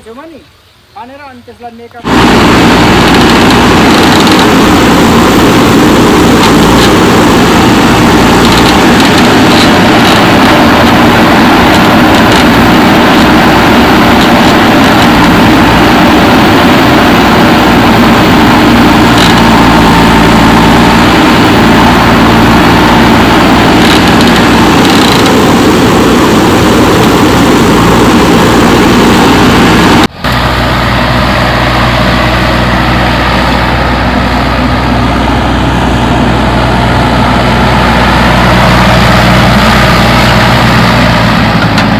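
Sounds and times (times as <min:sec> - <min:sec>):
backhoe diesel engine running: 0:01.9 - 0:41.9.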